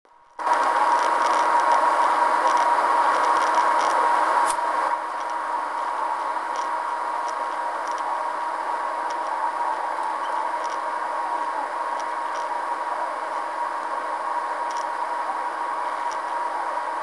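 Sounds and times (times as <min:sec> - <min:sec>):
steady hiss: 0:00.3 - 0:17.0
faint steady tone: 0:01.1 - 0:17.0.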